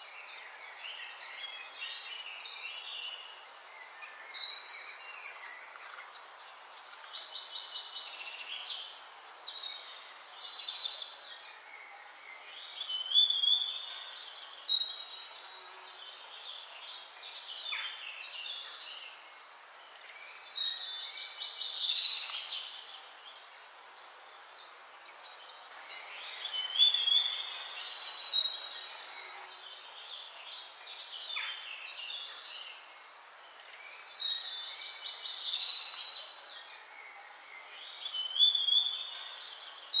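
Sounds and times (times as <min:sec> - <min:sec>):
songbirds chirping and trilling: 0:00.0 - 0:40.0
steady background hiss: 0:00.0 - 0:40.0.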